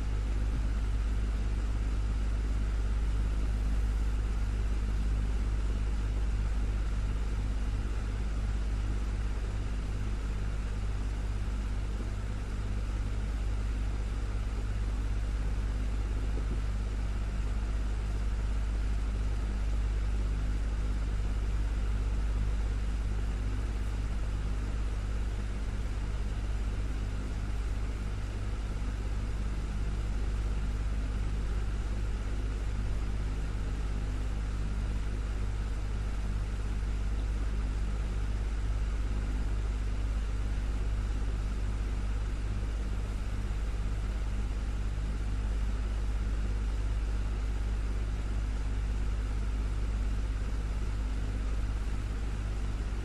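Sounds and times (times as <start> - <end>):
desktop electric fan running: 0.0 - 53.0.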